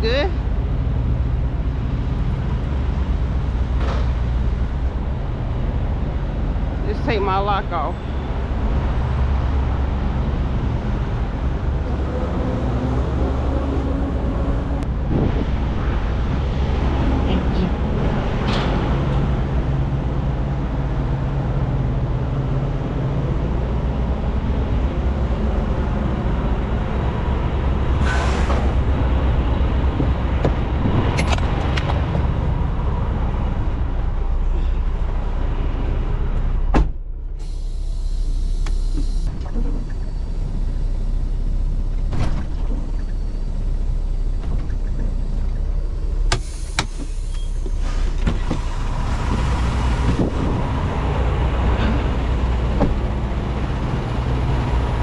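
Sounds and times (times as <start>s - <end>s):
diesel truck engine idling: 0.0s - 30.8s, 31.6s - 55.0s.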